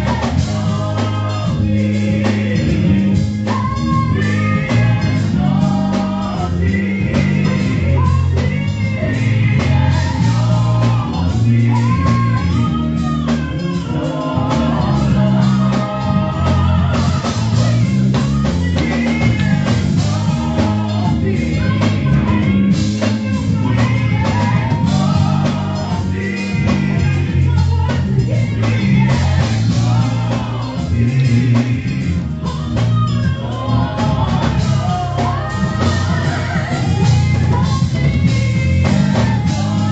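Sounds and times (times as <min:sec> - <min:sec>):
band with guitar bass and drums: 0:00.0 - 0:39.9
person singing gospel: 0:00.0 - 0:39.9.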